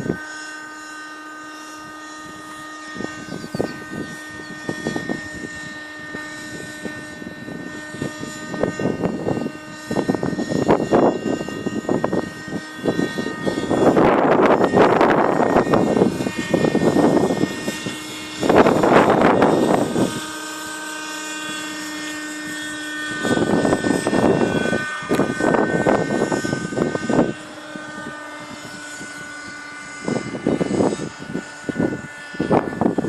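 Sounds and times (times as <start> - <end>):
model helicopter engine whine: 0.0 - 33.0.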